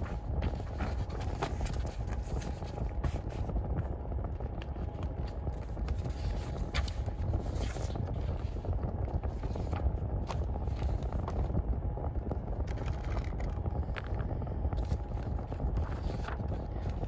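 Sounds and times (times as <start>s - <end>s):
paper shuffling and flipping: 0.0s - 3.9s, 4.5s - 11.6s, 12.6s - 17.0s
steady low rumble: 0.0s - 17.0s.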